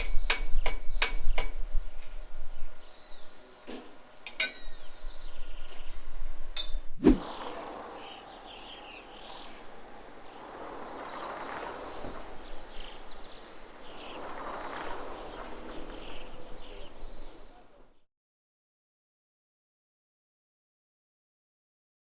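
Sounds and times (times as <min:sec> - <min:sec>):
birds chirping: 0:00.0 - 0:18.0
outdoor ambient noise: 0:00.0 - 0:18.1.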